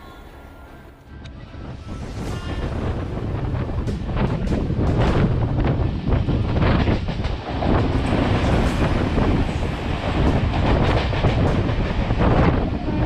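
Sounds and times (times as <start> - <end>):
train rushing past: 0.0 - 13.0
wind buffeting microphone: 1.2 - 13.0.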